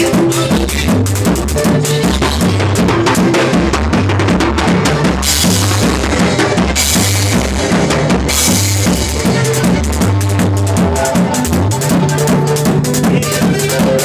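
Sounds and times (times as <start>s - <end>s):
bass line: 0.0s - 14.0s
drum kit groove: 0.0s - 14.0s.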